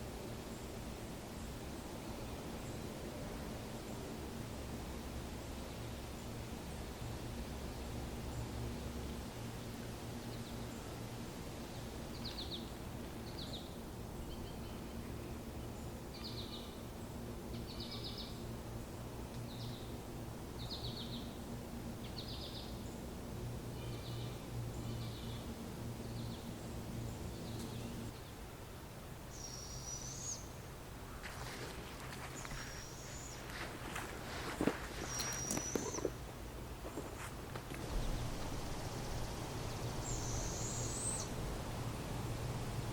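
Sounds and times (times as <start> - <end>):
low hum: 0.0 - 42.9.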